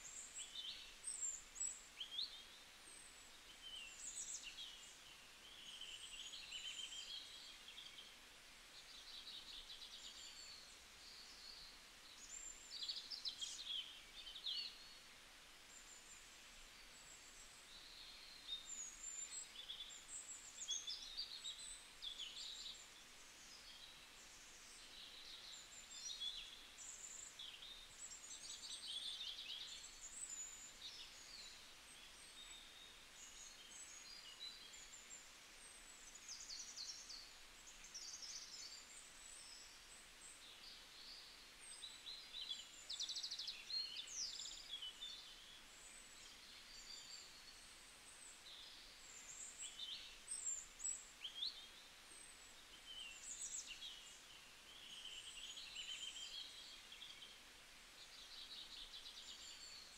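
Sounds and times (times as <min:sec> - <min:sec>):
faint background hiss: 0:00.0 - 0:59.9
small birds chirping: 0:00.0 - 0:59.9.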